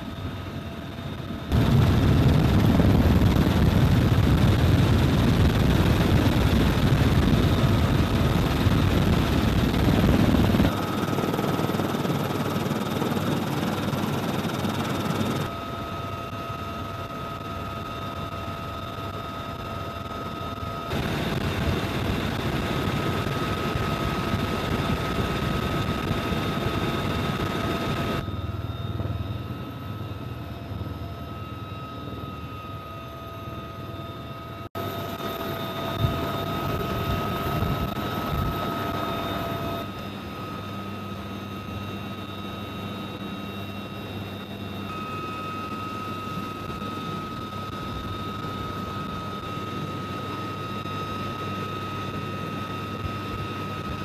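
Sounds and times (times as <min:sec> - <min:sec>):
helicopter engines and rotor: 0:00.0 - 0:54.0
high steady whine: 0:00.0 - 0:54.0.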